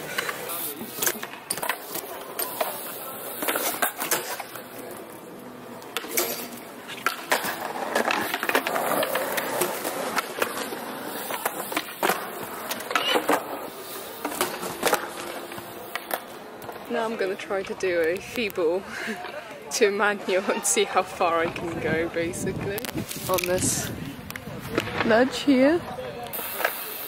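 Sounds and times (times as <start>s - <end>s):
wheels rolling on concrete: 0.0s - 27.0s.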